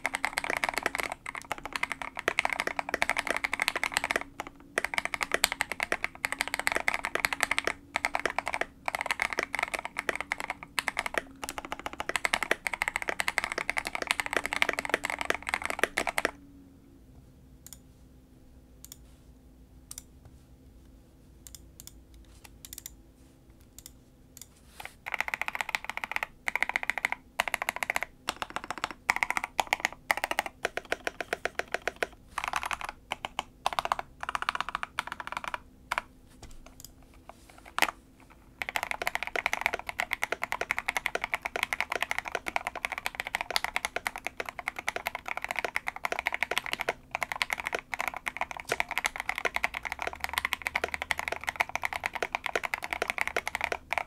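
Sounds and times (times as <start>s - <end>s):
typing on mechanical keyboard: 0.0s - 16.4s, 24.9s - 36.9s, 37.5s - 54.0s.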